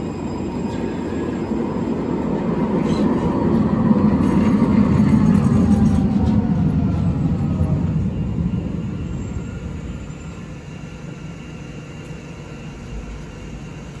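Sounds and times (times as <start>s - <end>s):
tram braking to a stop: 0.0s - 14.0s.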